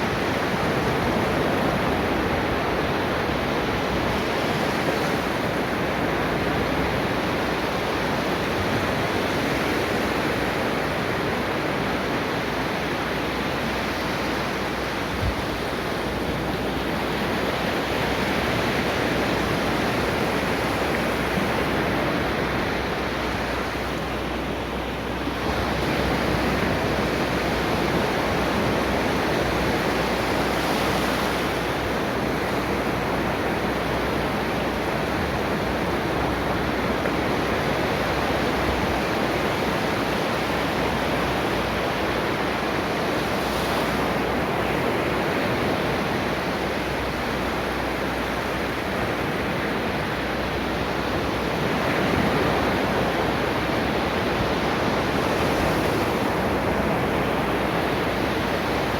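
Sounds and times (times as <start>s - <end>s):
ocean waves breaking on shore: 0.0s - 58.9s.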